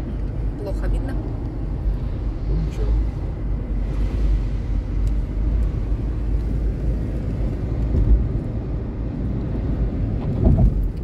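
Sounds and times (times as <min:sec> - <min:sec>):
car driving at highway speed: 0:00.0 - 0:11.0.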